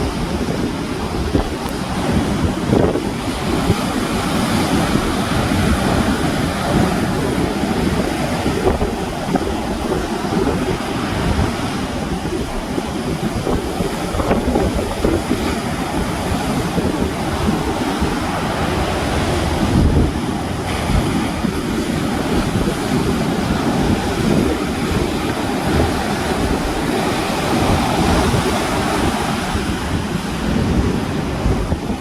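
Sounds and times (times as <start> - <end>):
sea surf washing on shore: 0.0 - 32.0
wind buffeting microphone: 0.0 - 32.0.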